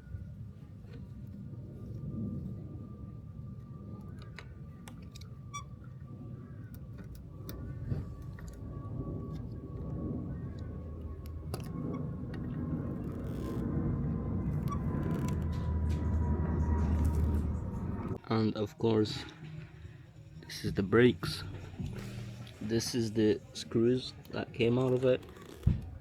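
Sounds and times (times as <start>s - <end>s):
steady low rumble: 0.0s - 24.6s.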